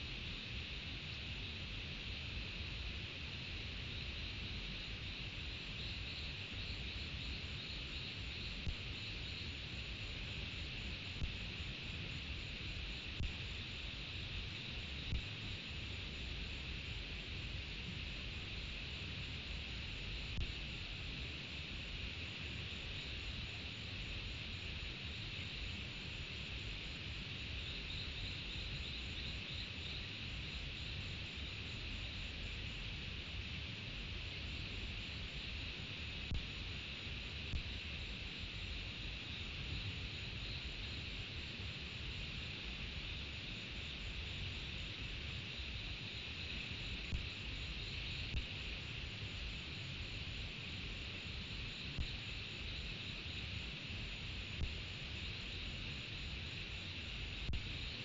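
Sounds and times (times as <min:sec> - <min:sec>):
chorus of tropical insects: 0:00.0 - 0:58.0.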